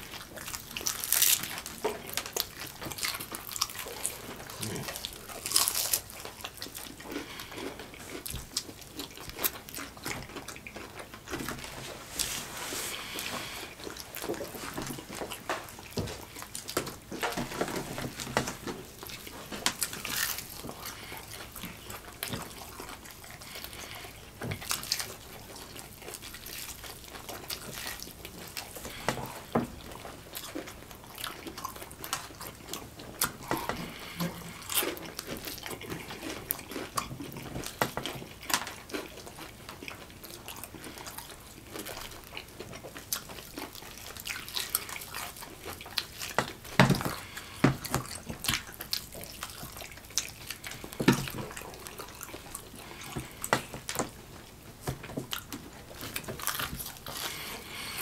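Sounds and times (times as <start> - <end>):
people chewing crunchy food: 0.0 - 58.0.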